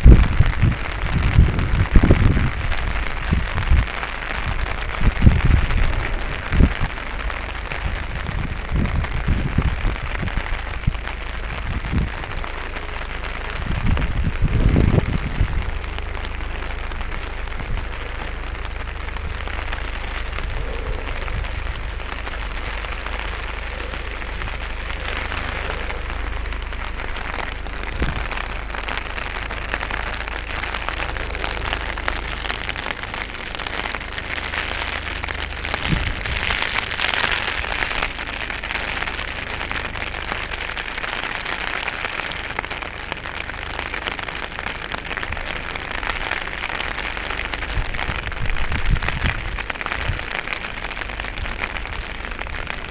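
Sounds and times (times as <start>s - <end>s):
heavy rain: 0.0s - 52.9s
low rumble: 0.0s - 52.9s.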